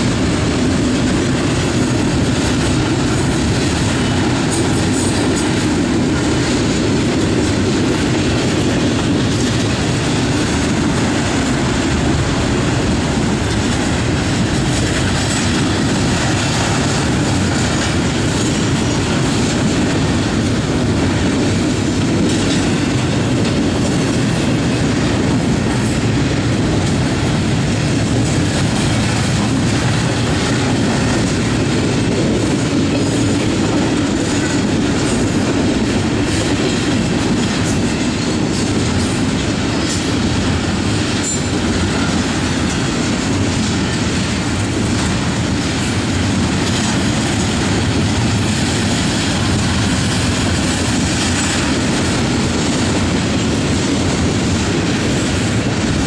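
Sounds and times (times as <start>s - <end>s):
steel wheels on rail: 0.0s - 56.0s.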